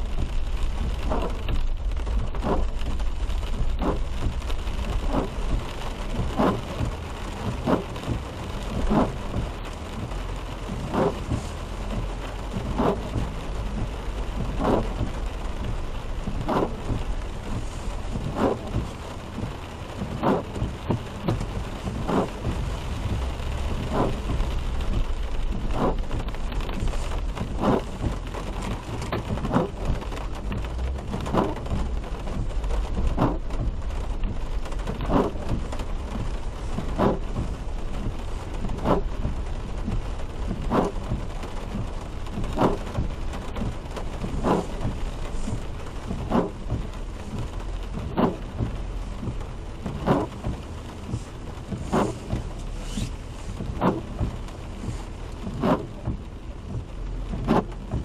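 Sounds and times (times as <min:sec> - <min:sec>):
rain on a car: 0:00.0 - 0:58.0
road rumble: 0:00.0 - 0:58.0
windshield wipers sweeping: 0:00.0 - 0:58.0.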